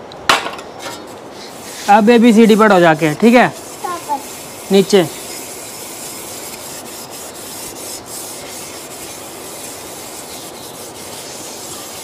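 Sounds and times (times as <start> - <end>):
scrubbing metal plate: 1.4 - 12.0.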